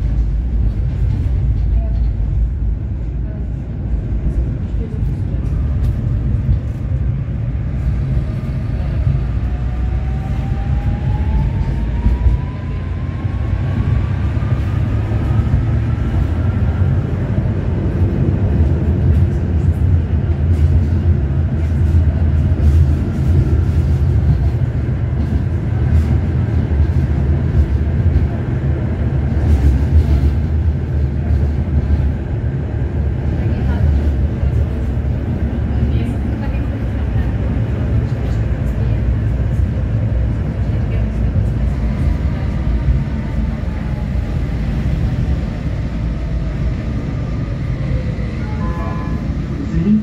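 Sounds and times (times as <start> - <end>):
tram rumbling on track: 0.0 - 50.0.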